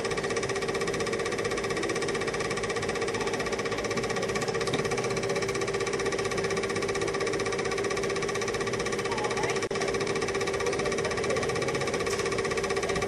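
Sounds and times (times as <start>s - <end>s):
film projector clatter: 0.0s - 13.0s
motor hum: 0.0s - 13.0s.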